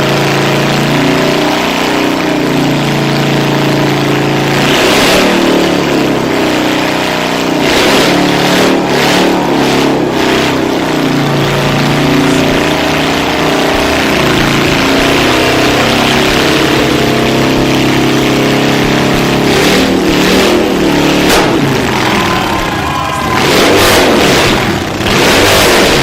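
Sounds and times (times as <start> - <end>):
motorcycle engines idling: 0.0 - 26.0
motorcycle throttle blips: 0.0 - 26.0.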